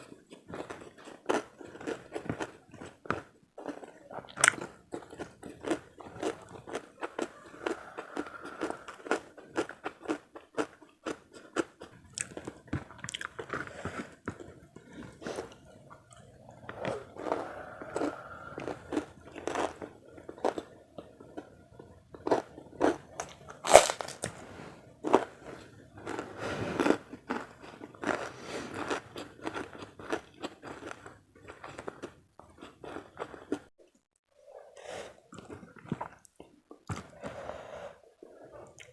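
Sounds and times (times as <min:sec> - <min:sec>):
crunching and chewing crisp food: 0:00.0 - 0:38.9.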